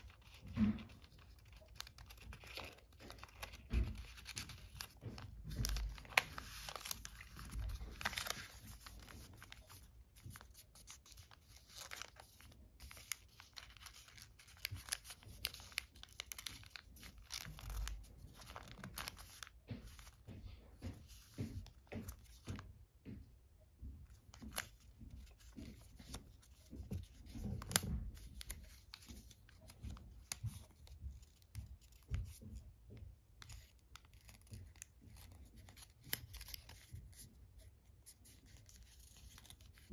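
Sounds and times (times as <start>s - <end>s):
paper crinkling and rustling: 0.0s - 23.2s, 23.8s - 39.9s.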